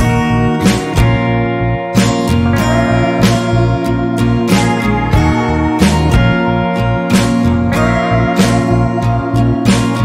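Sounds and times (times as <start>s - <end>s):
acoustic guitar instrumental with beat: 0.0s - 10.0s.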